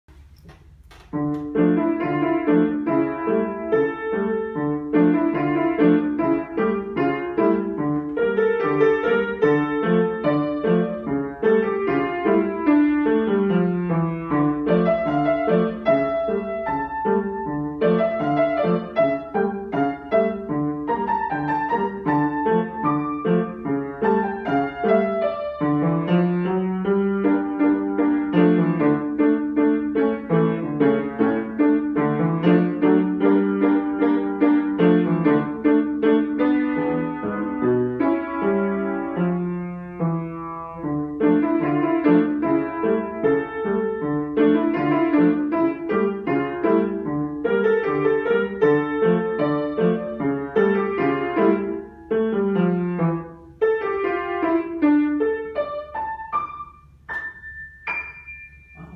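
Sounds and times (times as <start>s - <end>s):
grand piano piece: 0.1s - 58.9s.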